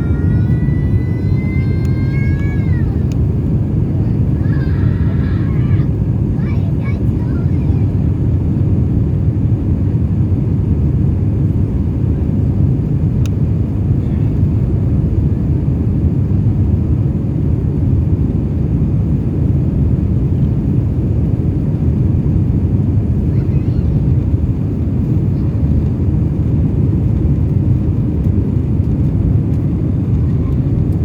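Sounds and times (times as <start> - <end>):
airliner cabin engine rumble: 0.0 - 31.0.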